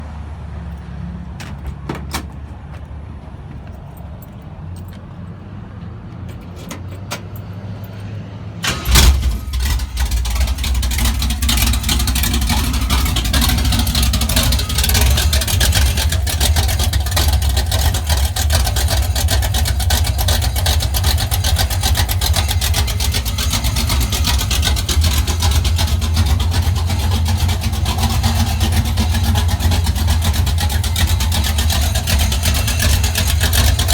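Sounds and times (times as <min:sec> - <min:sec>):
car engine starting and idling: 0:00.0 - 0:33.9.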